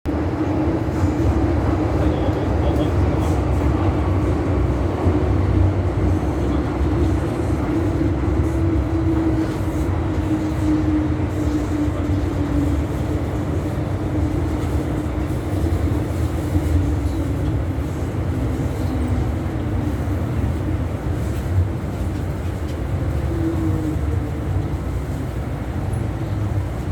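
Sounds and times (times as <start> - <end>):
train low rumble: 0.0 - 26.9.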